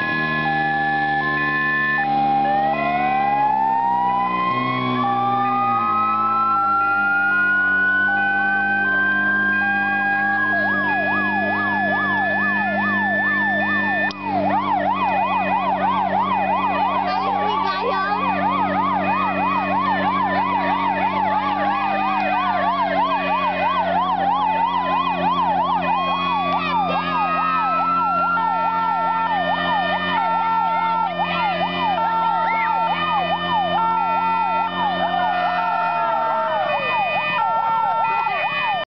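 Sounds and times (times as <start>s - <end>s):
engine drone: 0.0s - 37.1s
emergency sirens wailing: 0.0s - 38.9s.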